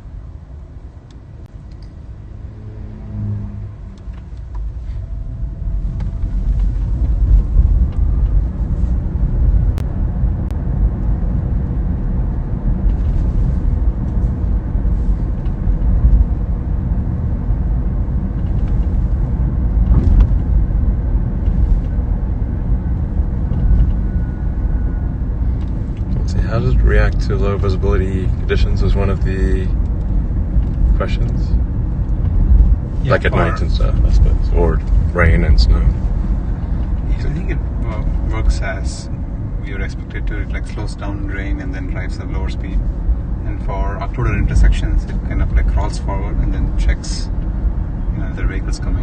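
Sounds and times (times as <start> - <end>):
road rumble inside car: 0.0 - 49.0.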